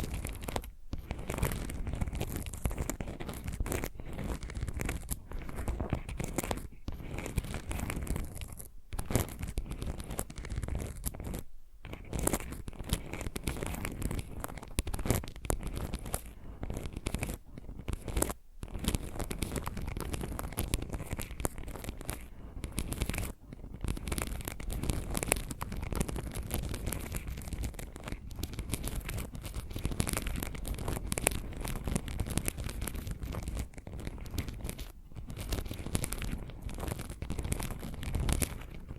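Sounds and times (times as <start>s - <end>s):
fingernail scratching and tapping: 0.0s - 38.9s.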